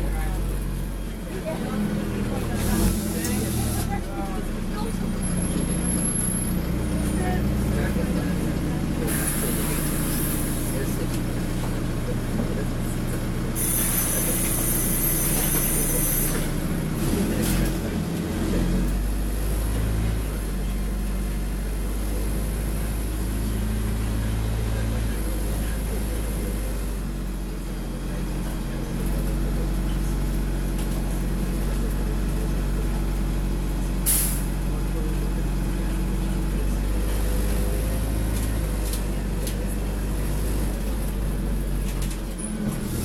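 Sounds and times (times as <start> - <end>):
bus diesel engine droning: 0.0 - 43.0.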